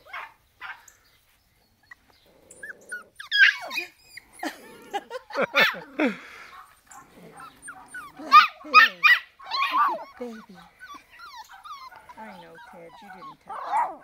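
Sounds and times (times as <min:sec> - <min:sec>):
puppies whining and yelping: 0:01.6 - 0:05.9, 0:06.9 - 0:14.0.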